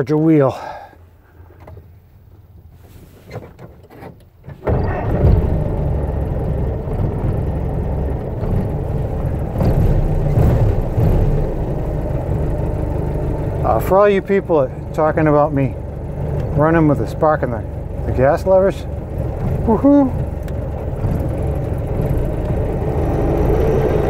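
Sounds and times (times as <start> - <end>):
car engine running: 4.7 - 24.0.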